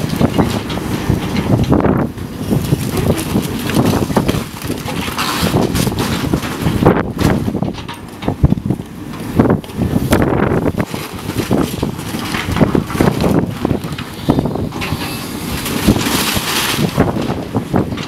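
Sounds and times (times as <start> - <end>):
wind buffeting microphone: 0.0 - 18.0
wreckage crunching and falling: 0.0 - 18.0.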